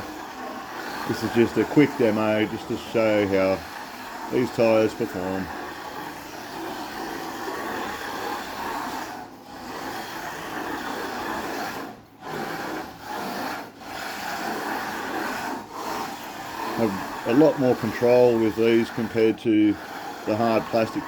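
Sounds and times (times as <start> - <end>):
toy car motor whirring: 0.0 - 21.0
tyres sliding on wooden floor: 0.0 - 21.0.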